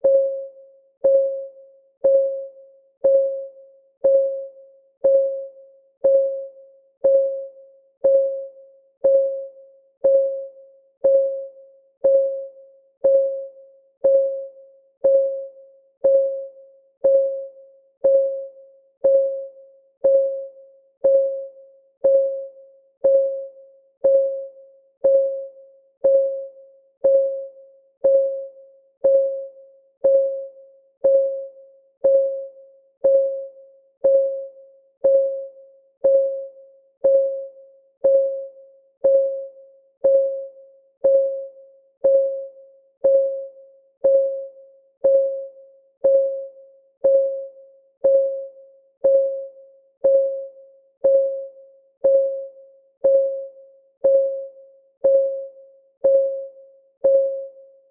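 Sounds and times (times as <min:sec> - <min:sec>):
countdown timer ticking: 0:01.0 - 0:01.4, 0:02.0 - 0:57.6.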